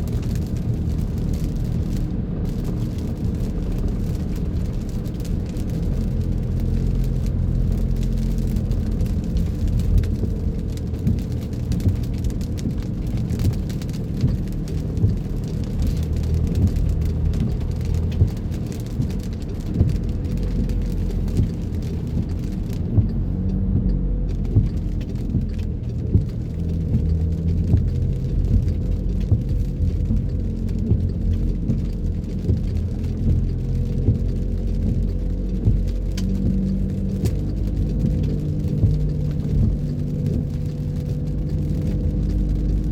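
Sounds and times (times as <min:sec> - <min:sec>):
car engine and road rumble: 0:00.0 - 0:42.9
raindrops ticking on car: 0:00.0 - 0:42.9.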